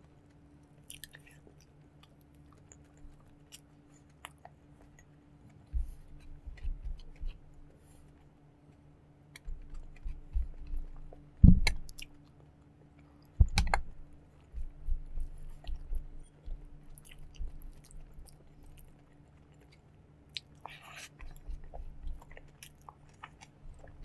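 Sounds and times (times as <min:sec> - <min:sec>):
faint steady hum: 0:00.0 - 0:24.0
person chewing food: 0:00.0 - 0:24.0.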